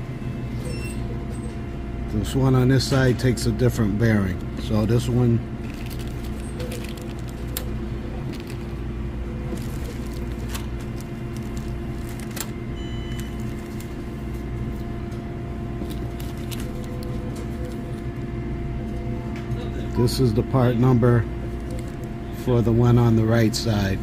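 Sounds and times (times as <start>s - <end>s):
low machinery hum: 0.0s - 24.0s.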